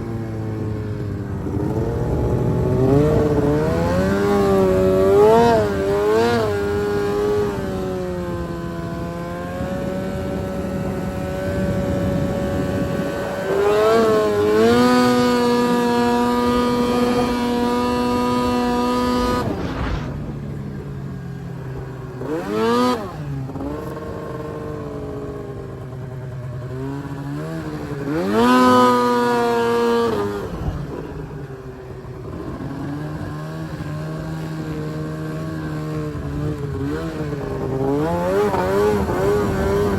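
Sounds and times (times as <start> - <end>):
snowmobile engine revving: 1.1 - 25.6, 26.5 - 31.1, 32.0 - 39.9.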